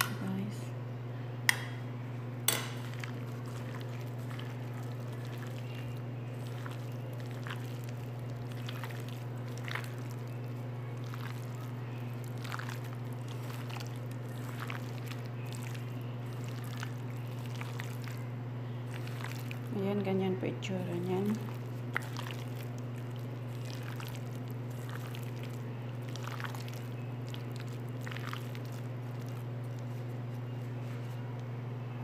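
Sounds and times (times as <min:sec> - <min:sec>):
steady low hum: 0:00.0 - 0:32.0
hand squishing wet chicken: 0:02.8 - 0:20.0, 0:20.7 - 0:31.4.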